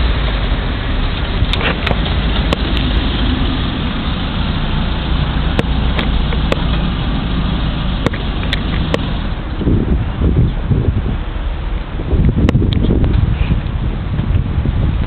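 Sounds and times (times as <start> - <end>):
motor vehicle engine rumbling: 0.0 - 15.0.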